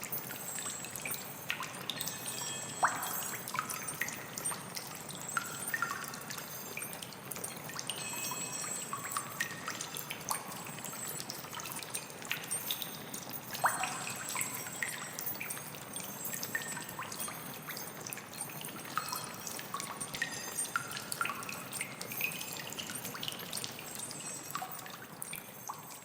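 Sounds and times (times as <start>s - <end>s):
pitched water plinks: 0.0s - 26.0s
water trickling and dripping: 0.0s - 26.0s.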